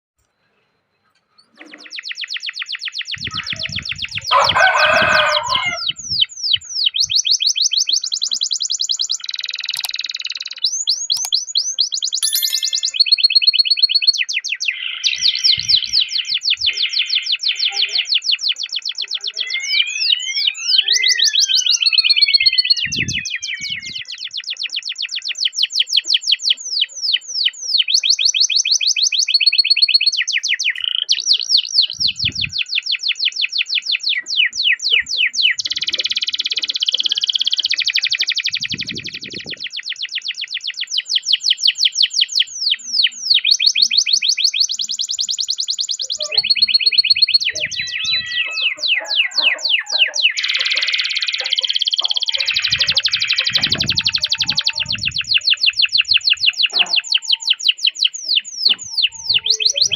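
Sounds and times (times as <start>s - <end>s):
canary singing trills: 1.3s - 59.9s.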